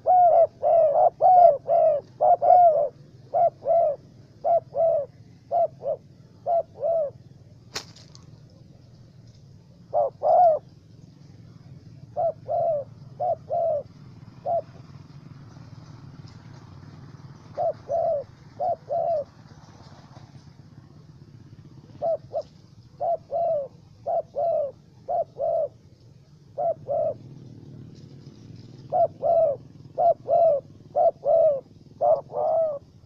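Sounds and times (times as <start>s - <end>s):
dove cooing: 0.0s - 33.0s
faint low hum: 0.0s - 33.0s.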